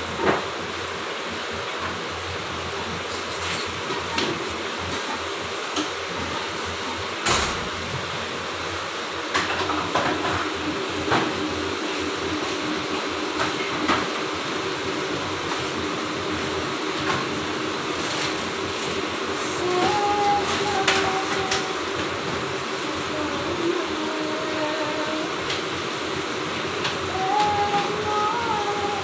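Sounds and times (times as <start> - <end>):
kitchen appliance fan rushing: 0.0 - 29.0.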